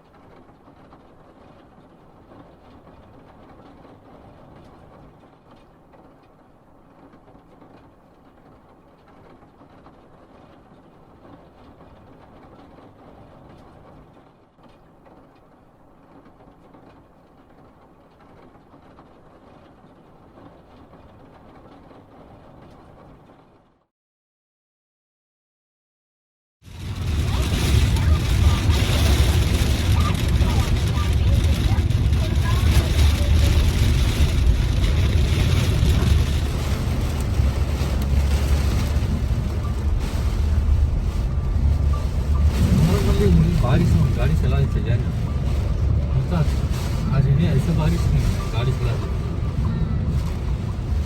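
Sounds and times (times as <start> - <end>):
heavy rain on car: 0.0 - 23.7, 26.6 - 51.0
road noise inside car: 0.0 - 23.8, 26.6 - 51.0.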